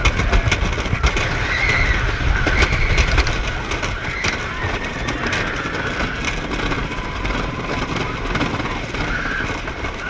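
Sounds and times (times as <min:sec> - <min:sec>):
constant low noise: 0:00.0 - 0:10.0
roller coaster wheels clacking: 0:00.0 - 0:10.0.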